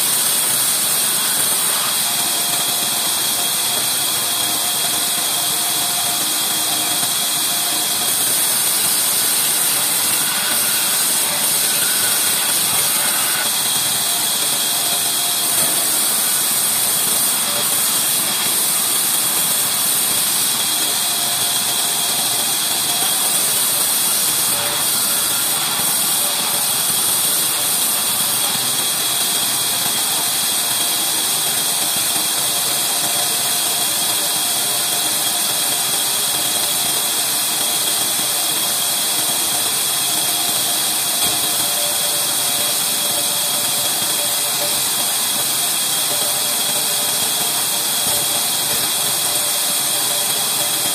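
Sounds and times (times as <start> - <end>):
band saw cutting timber: 0.0 - 50.9.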